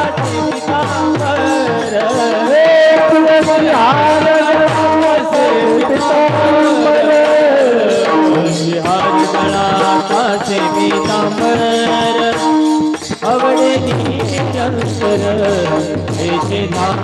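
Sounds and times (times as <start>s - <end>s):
steady percussion beats: 0.0s - 17.0s.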